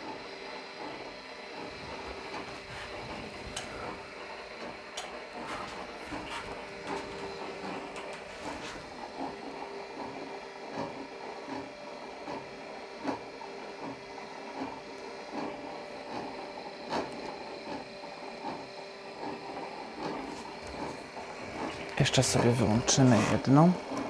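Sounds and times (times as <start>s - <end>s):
rotating beacons whirring: 0.0s - 24.0s.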